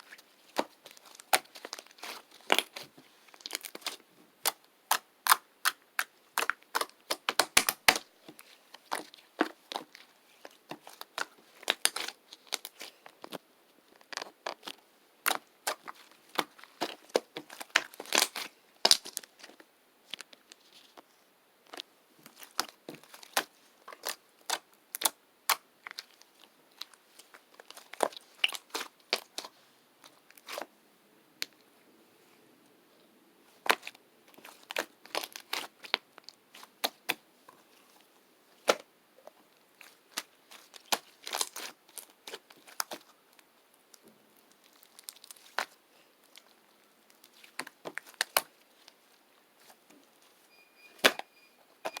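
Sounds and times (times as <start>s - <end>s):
handling crackles and crinkles: 0.0s - 30.8s, 31.4s - 52.0s.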